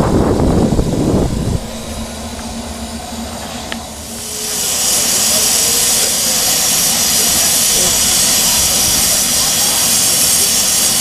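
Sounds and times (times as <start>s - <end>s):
steam hissing: 0.0s - 11.0s
steam locomotive rumble: 0.0s - 11.0s.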